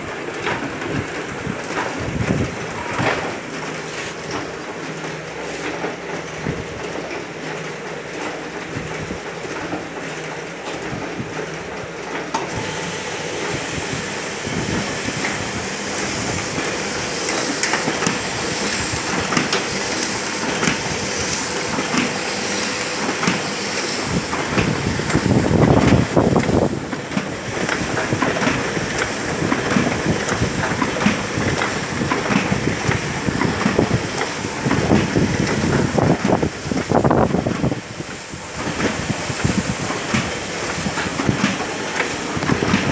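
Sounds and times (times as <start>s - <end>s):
printing press clattering: 0.0s - 42.9s.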